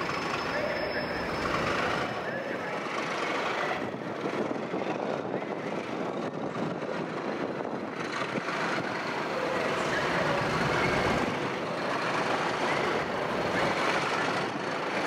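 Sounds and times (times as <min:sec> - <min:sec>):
diesel locomotive engines: 0:00.0 - 0:15.0.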